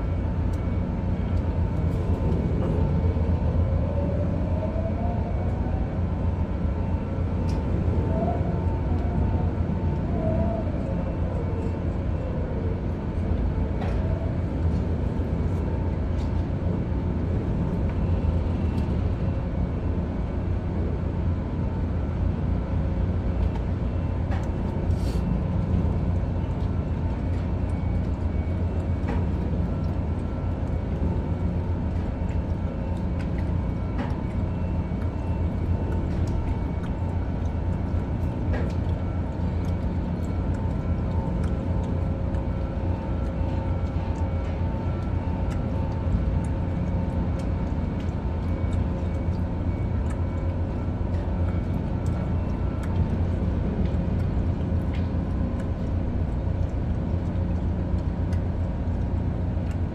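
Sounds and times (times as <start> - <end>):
ship machinery drone: 0.0 - 59.9.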